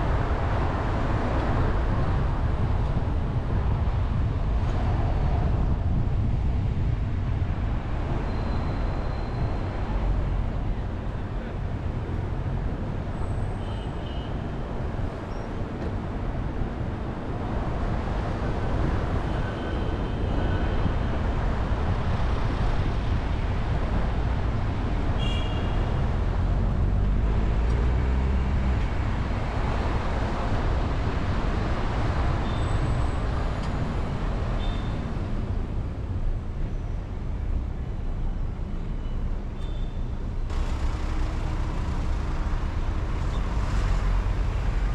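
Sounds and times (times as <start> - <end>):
city traffic rumble: 0.0 - 44.9.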